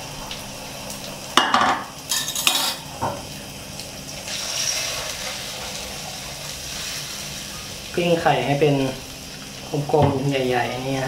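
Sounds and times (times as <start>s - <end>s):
egg sizzling in wok: 0.0s - 11.0s.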